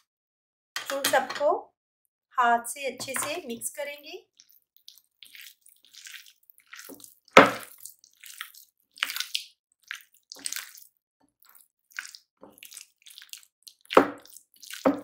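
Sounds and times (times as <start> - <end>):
wet squelches of mixing: 2.8 - 15.0.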